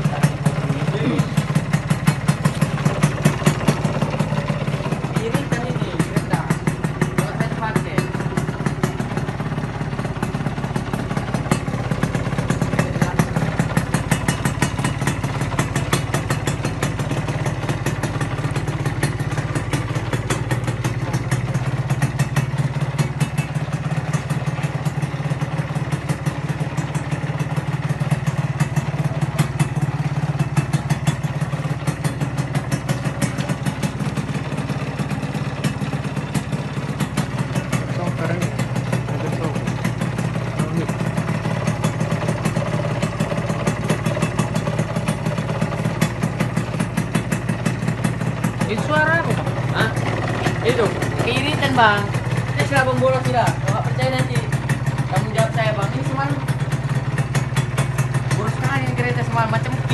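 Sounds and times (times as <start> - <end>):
two-stroke engine idling: 0.0 - 59.9.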